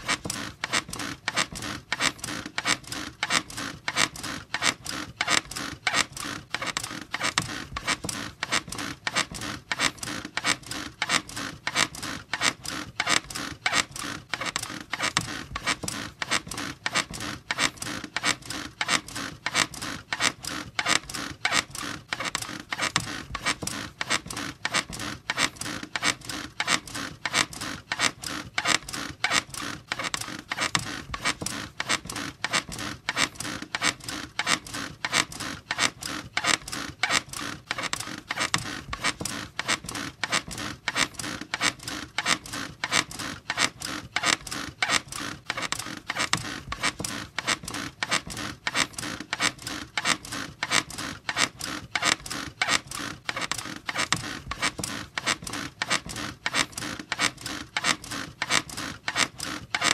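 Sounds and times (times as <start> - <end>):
bed squeaking: 0.0 - 59.9.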